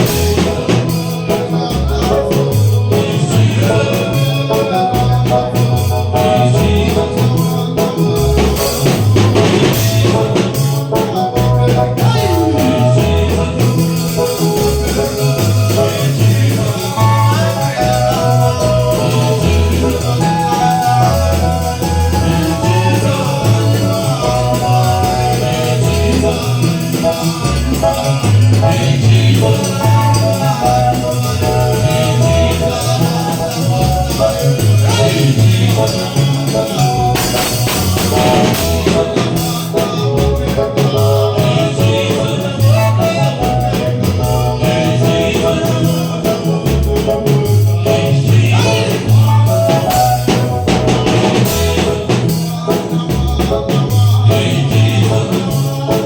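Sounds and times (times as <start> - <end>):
gospel band playing: 0.0 - 56.0
voices singing: 0.0 - 56.0.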